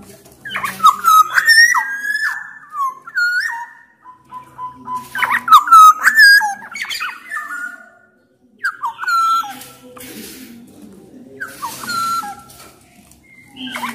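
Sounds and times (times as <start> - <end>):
oriole whistled song: 0.4 - 9.8, 11.4 - 13.9.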